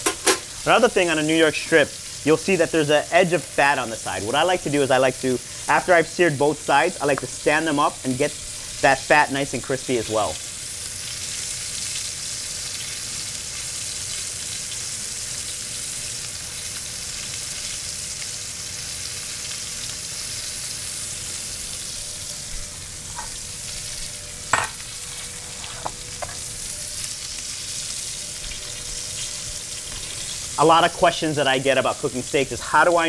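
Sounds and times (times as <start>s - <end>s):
steaks sizzling in a skillet: 0.0s - 33.0s.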